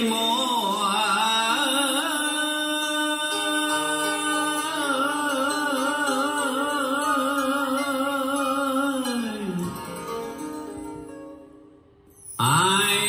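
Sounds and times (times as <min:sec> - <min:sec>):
man singing a long note: 0:00.0 - 0:10.0, 0:12.4 - 0:13.0.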